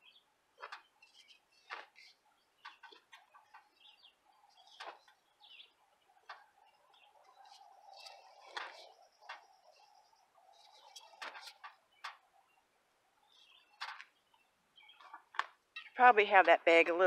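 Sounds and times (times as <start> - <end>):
faint bird chirps: 0.0 - 16.4.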